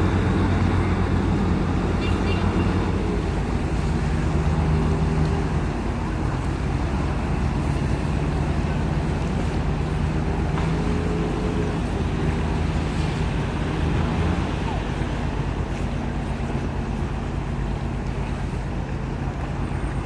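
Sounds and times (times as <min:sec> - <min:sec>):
ship engines humming: 0:00.0 - 0:20.0
wind and water rushing: 0:00.0 - 0:20.0.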